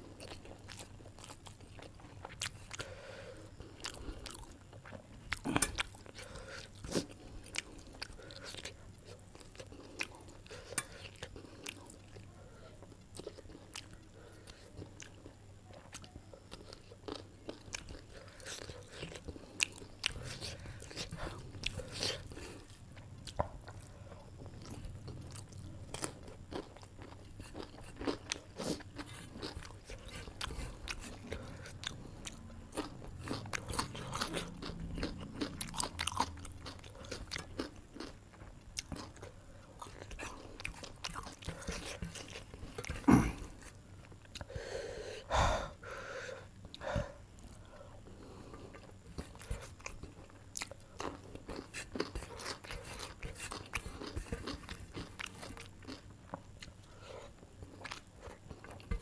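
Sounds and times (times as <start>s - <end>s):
close chewing and biting: 0.0s - 12.3s, 13.1s - 44.5s, 48.5s - 59.0s.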